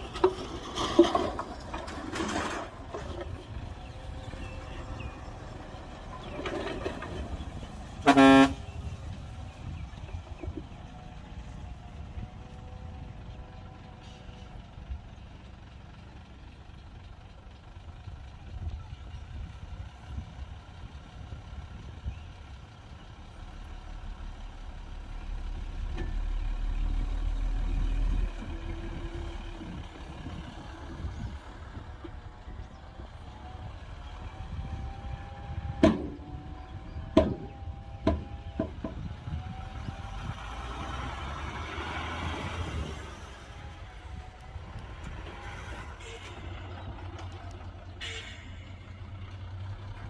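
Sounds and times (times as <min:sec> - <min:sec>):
diesel earthmoving machinery rumbling: 0:00.0 - 0:50.0.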